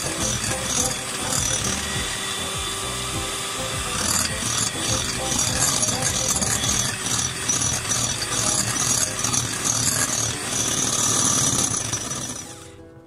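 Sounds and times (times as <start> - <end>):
electric hand mixer beating eggs: 0.0 - 12.9.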